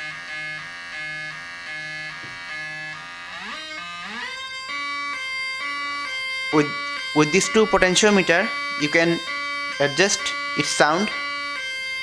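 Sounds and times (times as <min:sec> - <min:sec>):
two-tone electronic siren: 0:00.0 - 0:12.0.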